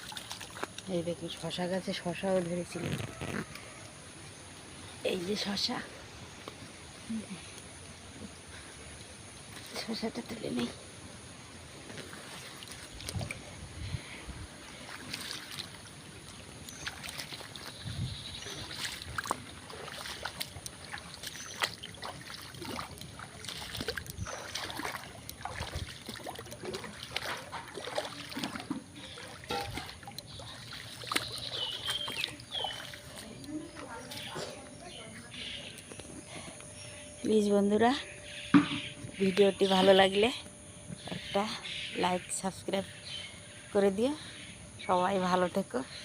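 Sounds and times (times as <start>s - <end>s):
water sloshing and splashing: 0.0s - 44.1s.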